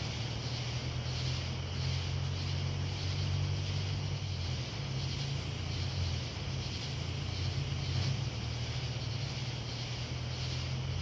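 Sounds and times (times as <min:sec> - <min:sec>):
even hiss: 0:00.0 - 0:11.0.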